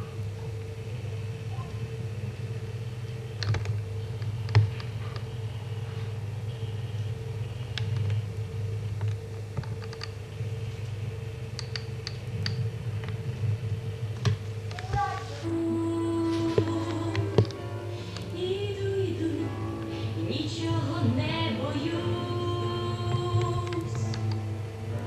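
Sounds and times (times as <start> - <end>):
aquarium pump electric hum: 0.0 - 25.0.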